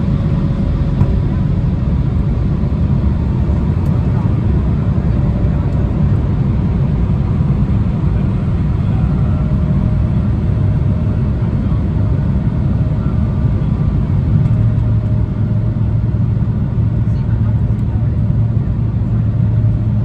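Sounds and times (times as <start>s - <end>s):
jet cabin low rumble: 0.0s - 20.0s.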